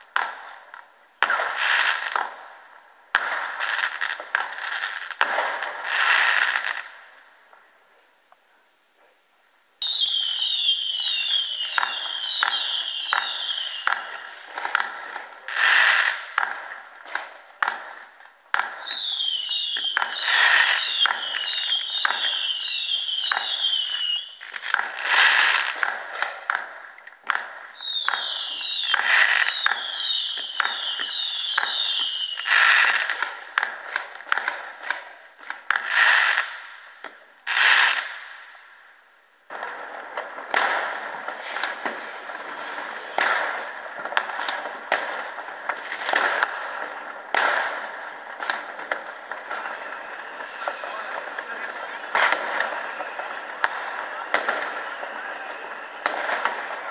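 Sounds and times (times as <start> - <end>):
fireworks bangs: 0.0 - 7.7, 9.8 - 56.9
crackling firework bursts: 0.0 - 8.0, 9.8 - 56.9.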